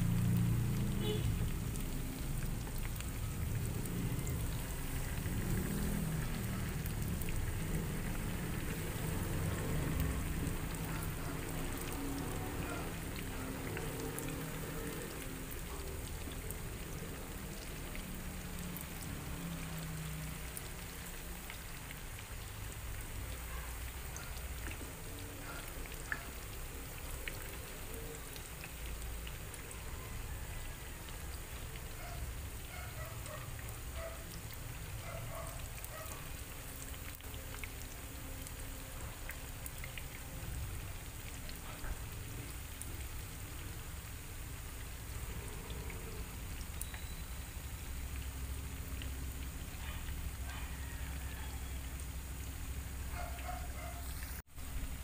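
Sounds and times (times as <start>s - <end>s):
tofu deep-frying in hot oil: 0.0s - 55.0s.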